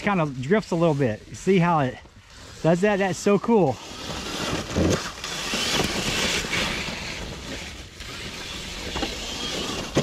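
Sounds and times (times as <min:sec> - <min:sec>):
toy car tyres scrabbling in leaves: 0:00.0 - 0:10.0.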